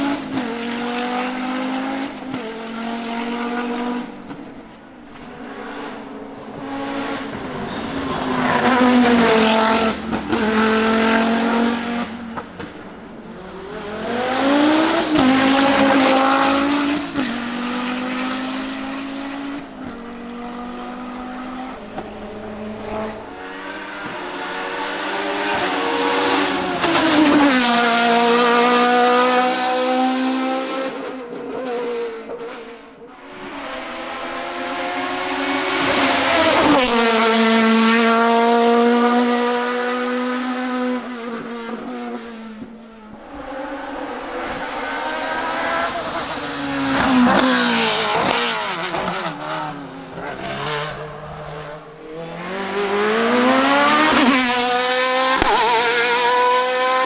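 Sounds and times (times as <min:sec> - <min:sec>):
race car engines revving past: 0:00.0 - 0:57.0.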